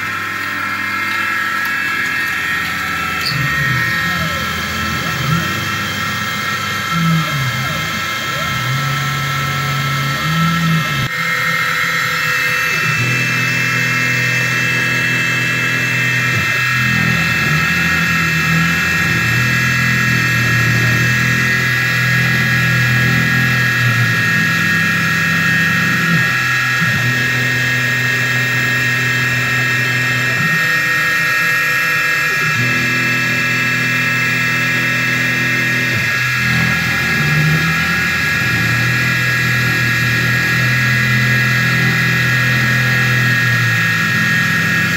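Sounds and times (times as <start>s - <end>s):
low machine hum: 0.0s - 30.5s, 32.7s - 44.9s
milling machine whine: 0.0s - 44.9s.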